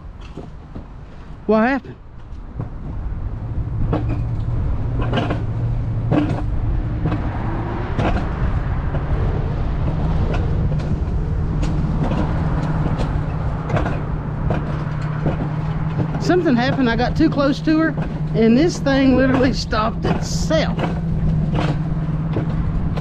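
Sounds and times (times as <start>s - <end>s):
sled rumbling on steel rails: 0.0s - 23.0s
track knocks and clatters: 0.0s - 23.0s.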